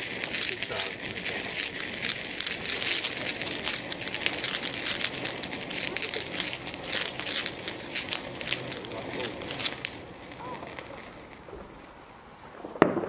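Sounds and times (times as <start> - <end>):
firework crackling: 0.0 - 13.0
firework fountain hissing: 0.0 - 13.0.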